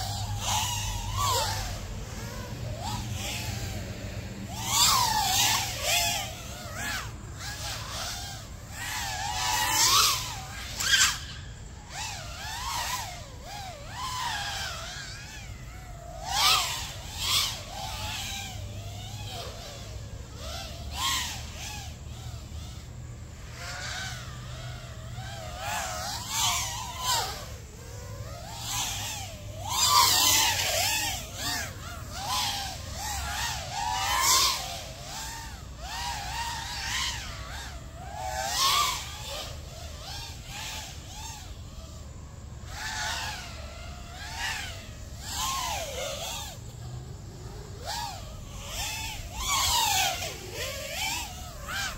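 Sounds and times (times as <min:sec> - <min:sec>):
quadcopter motor whine: 0:00.0 - 0:51.9.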